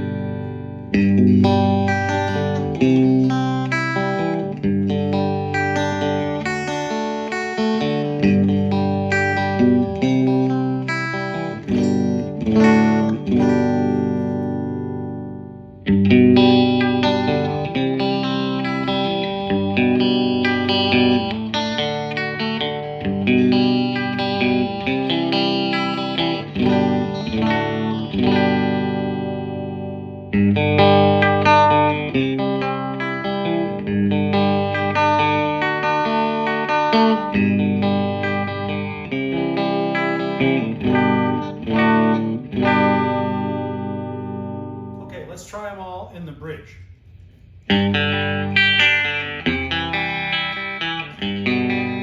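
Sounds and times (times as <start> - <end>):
electric guitar through amplifier: 0.0 - 45.2, 46.7 - 52.0.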